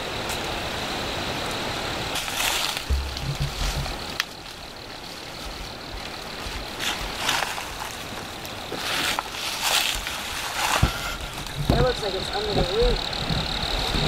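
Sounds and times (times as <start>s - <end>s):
leaves and branches rustling: 0.0s - 14.0s.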